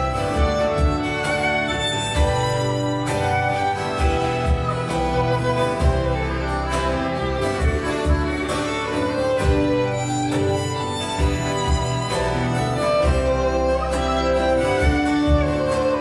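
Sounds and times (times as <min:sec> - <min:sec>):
live band instrumental: 0:00.0 - 0:16.0.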